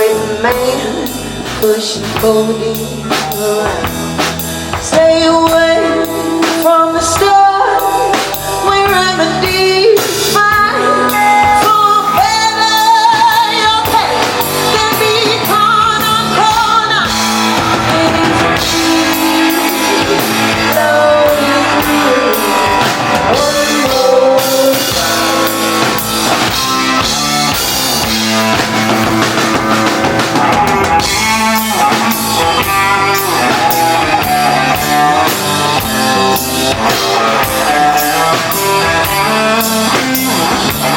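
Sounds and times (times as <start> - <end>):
bending lead guitar melody: 0.0 - 40.9
live rock band playing: 0.0 - 40.9.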